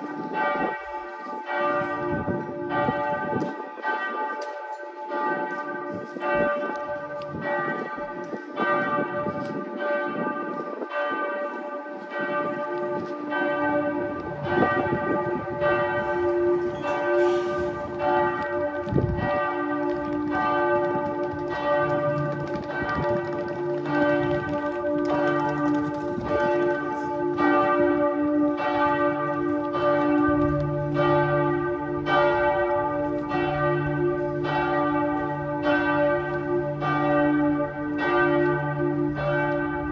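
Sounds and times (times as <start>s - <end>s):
church bells pealing: 0.0s - 39.9s
deep bells ringing: 0.0s - 39.9s.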